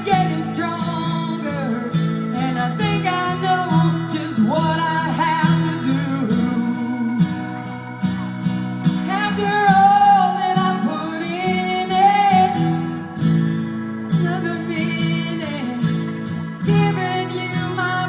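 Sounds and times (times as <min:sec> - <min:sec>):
woman singing: 0:00.0 - 0:13.4, 0:14.0 - 0:18.0
acoustic guitar strumming: 0:00.0 - 0:18.0.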